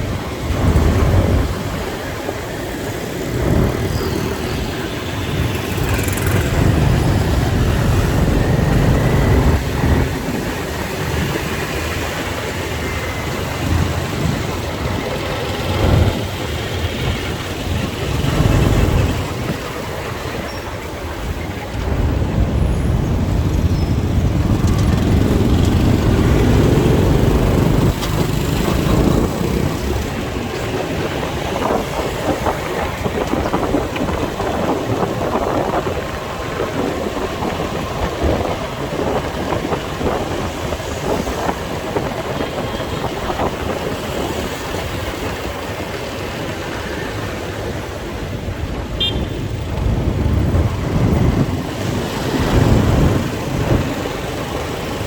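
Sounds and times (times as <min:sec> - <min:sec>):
motorcycle engine and road noise: 0:00.0 - 0:55.0.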